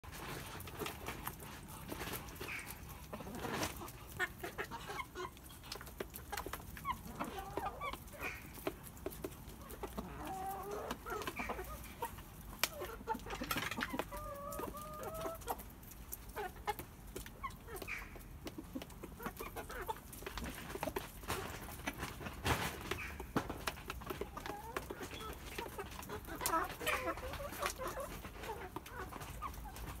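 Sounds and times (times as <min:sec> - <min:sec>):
chickens clucking: 0:00.0 - 0:30.0
beaks pecking in a tray: 0:00.2 - 0:30.0.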